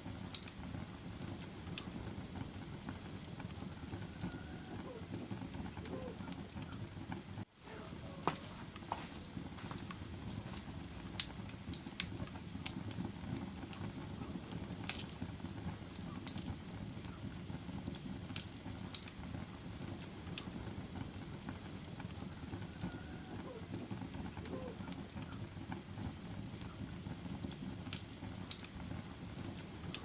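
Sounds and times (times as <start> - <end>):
fire burning with crackles and pops: 0.0 - 30.0.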